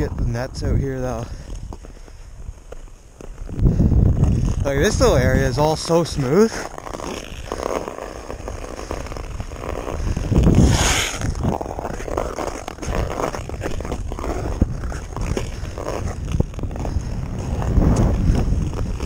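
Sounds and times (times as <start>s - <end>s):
wind buffeting microphone: 0.0s - 2.7s, 3.3s - 6.6s, 9.2s - 19.0s
atv engine and tyre noise: 0.0s - 19.0s.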